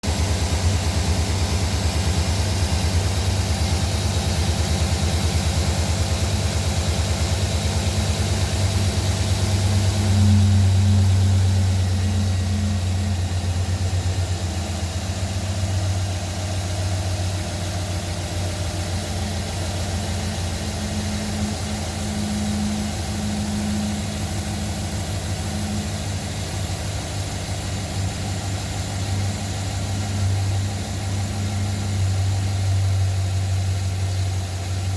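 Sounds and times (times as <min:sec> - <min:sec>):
truck engine idling with knock: 0:00.0 - 0:34.9.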